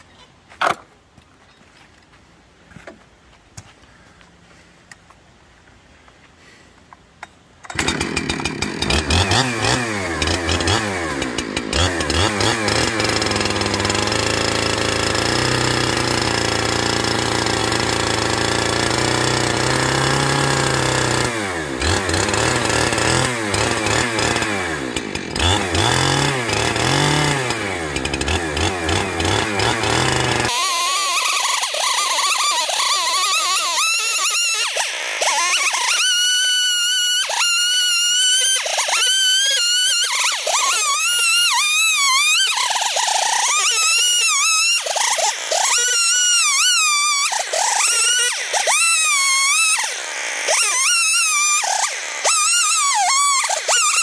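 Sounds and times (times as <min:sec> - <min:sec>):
chainsaw running at high revs: 0:07.7 - 0:54.0.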